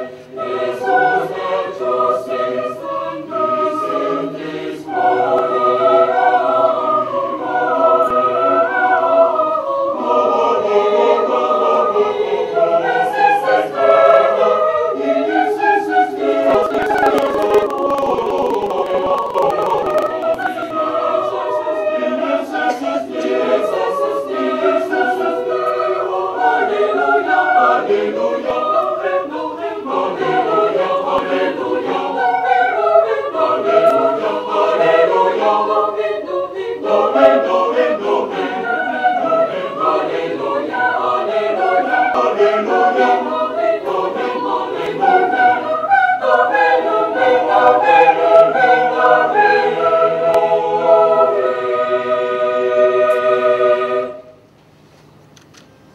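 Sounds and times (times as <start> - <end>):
mixed choir singing a cappella: 0.0 - 54.4.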